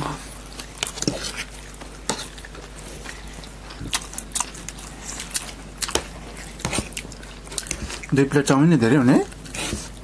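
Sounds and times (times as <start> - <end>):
people chewing noodles: 0.0 - 10.0.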